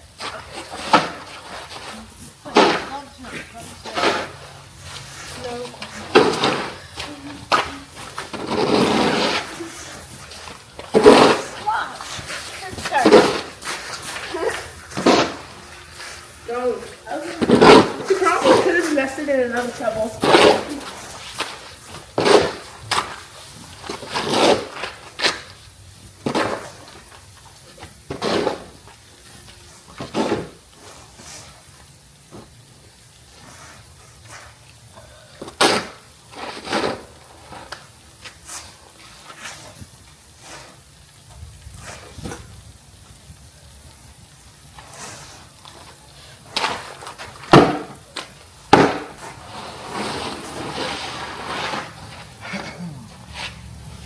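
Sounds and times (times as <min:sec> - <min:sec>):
snow shovels scraping pavement: 0:00.0 - 0:34.6, 0:35.4 - 0:43.0, 0:44.2 - 0:54.0.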